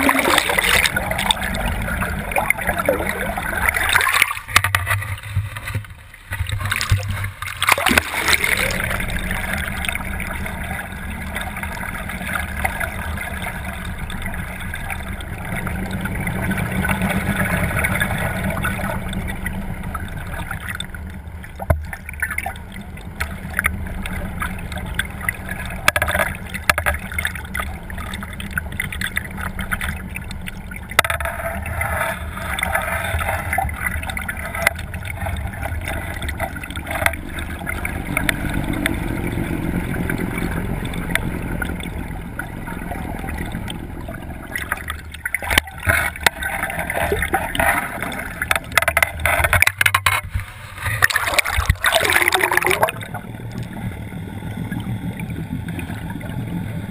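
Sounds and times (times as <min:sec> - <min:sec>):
motorboat engine running: 0:00.0 - 0:56.9
water rushing against housing: 0:00.0 - 0:56.9.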